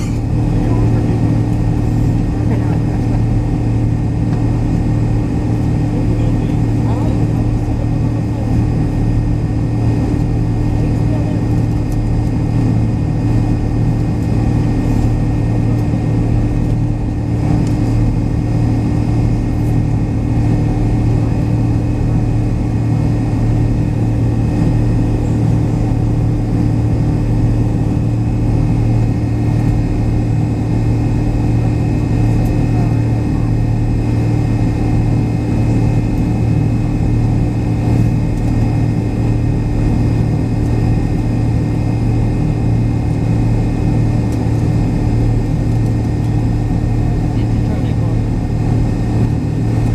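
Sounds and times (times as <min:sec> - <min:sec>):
jet engines droning in cabin: 0:00.0 - 0:49.9.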